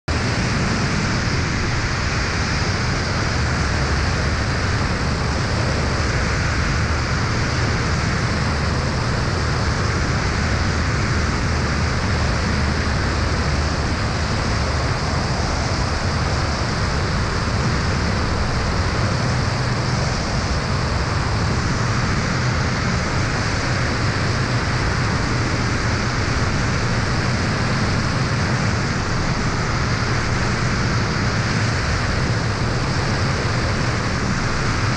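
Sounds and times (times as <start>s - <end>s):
light aircraft engine and propeller: 0.0s - 34.9s
rush of air: 0.1s - 34.9s.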